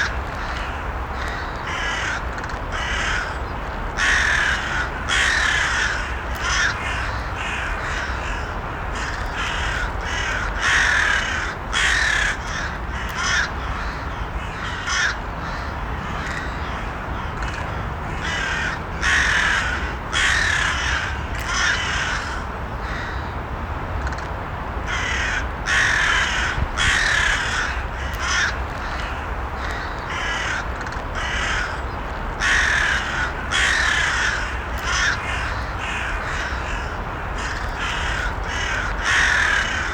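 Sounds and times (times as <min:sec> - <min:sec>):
crows cawing: 0:00.0 - 0:03.4, 0:04.0 - 0:23.3, 0:24.9 - 0:39.9
steady background hiss: 0:00.0 - 0:39.9.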